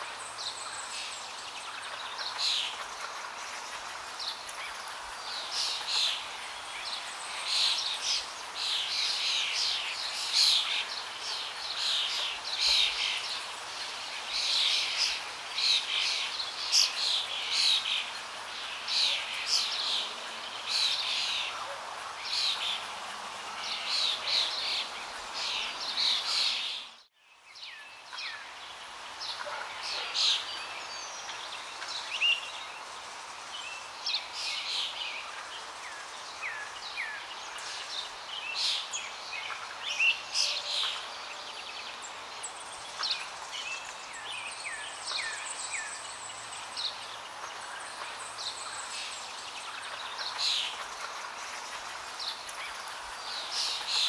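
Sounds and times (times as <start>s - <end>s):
background hiss: 0.0s - 54.0s
small birds chirping: 0.0s - 54.0s.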